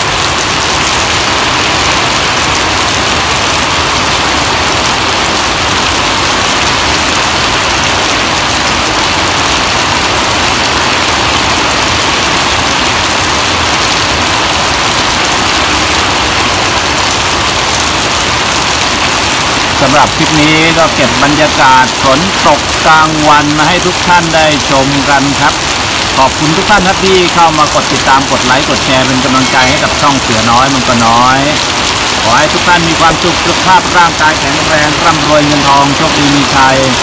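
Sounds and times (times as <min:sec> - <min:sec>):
heavy rain on wet road: 0:00.0 - 0:37.0.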